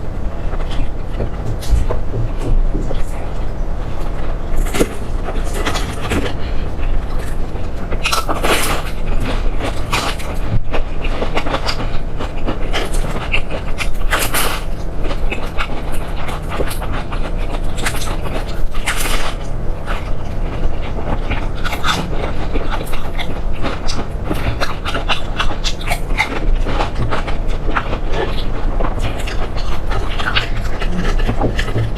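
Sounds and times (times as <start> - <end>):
low hum: 0.0 - 31.9
person chewing food: 0.0 - 31.9.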